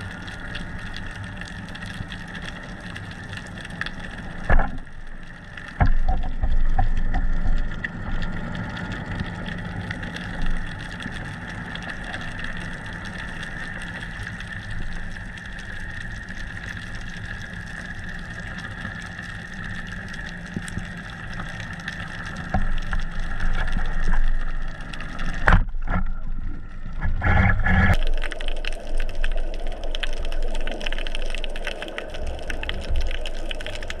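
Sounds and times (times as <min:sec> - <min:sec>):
high steady whine: 0:00.0 - 0:34.0.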